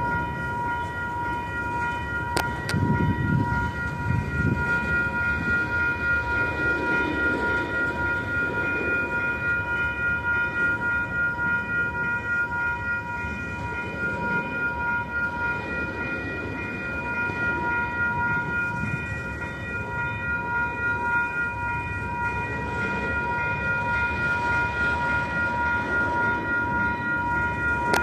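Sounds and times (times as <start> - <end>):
high-pitched ringing tone: 0.0 - 28.0
train wheels rumbling on rails: 0.0 - 28.0.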